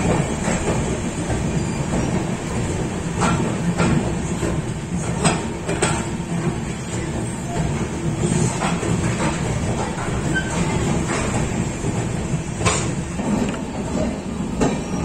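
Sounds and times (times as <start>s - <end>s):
sharp rail clacks: 0.0s - 14.8s
train running gear rumble: 0.0s - 15.0s.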